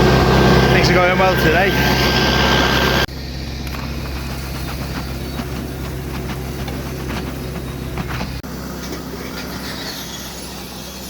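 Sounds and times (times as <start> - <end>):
heavy machinery engine running: 0.0 - 11.0
quieter engine hum: 0.0 - 11.0.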